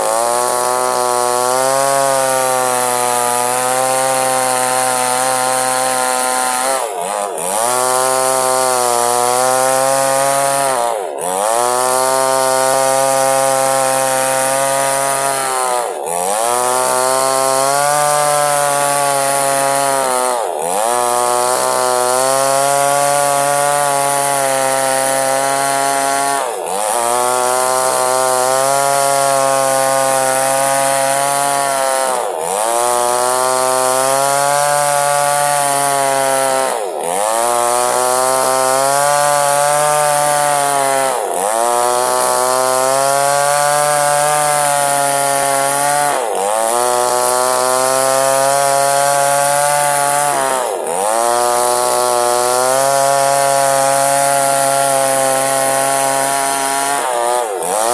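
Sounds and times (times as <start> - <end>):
chainsaw cutting a log: 0.0 - 57.9.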